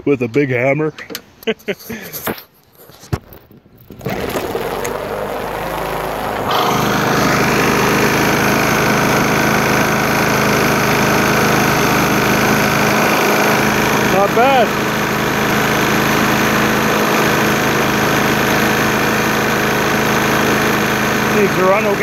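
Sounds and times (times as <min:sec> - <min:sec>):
lawn mower engine running: 0:03.7 - 0:22.0.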